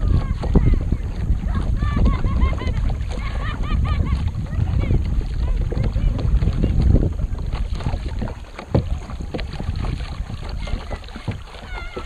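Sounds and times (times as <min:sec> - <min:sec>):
water splashing against kayak hull: 0:00.0 - 0:12.0
wind rumbling on microphone: 0:00.0 - 0:12.0.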